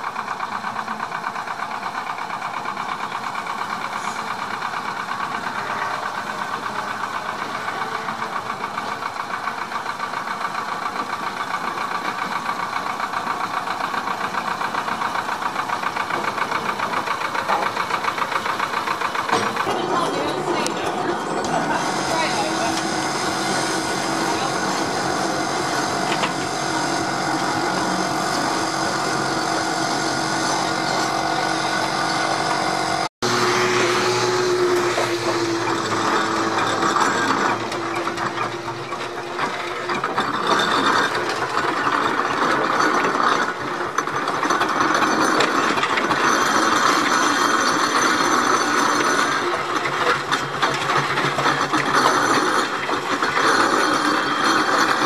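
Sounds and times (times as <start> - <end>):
steam roller clanking and rattling: 0.0 - 55.0.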